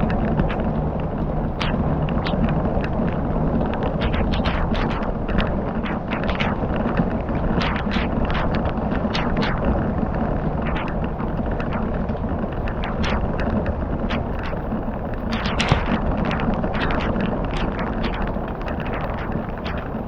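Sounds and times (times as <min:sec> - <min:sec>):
campfire crackling and popping: 0:00.0 - 0:20.0
rushing rumbling background: 0:00.0 - 0:20.0.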